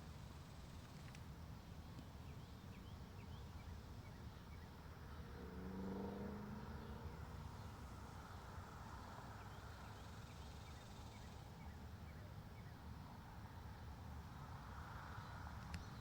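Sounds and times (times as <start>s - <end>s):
wind through trees: 0.0s - 16.0s.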